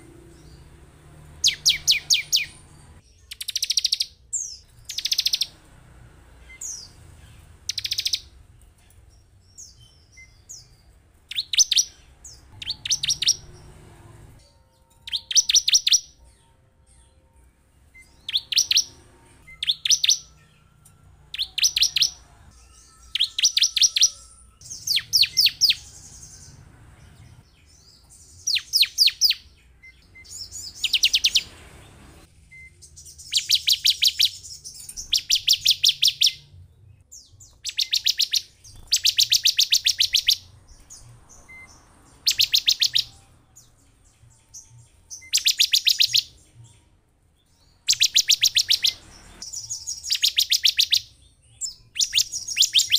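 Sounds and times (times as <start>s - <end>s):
bird chirping song: 0.0s - 52.9s.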